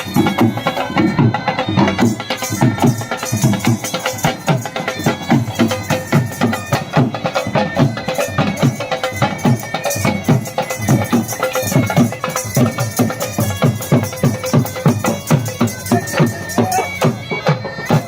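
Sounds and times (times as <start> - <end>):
music with fast drum beat: 0.0 - 18.0.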